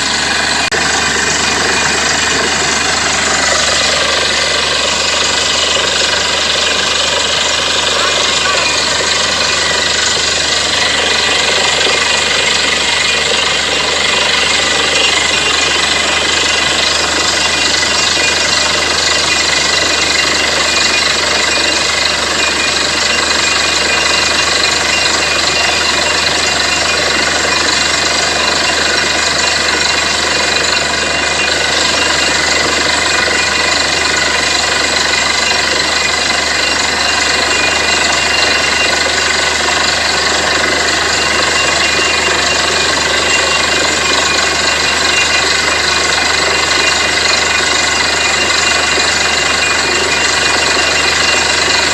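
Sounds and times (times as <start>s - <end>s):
drilling rig hammering rattle: 0.0s - 51.9s
engine noise: 0.0s - 51.9s.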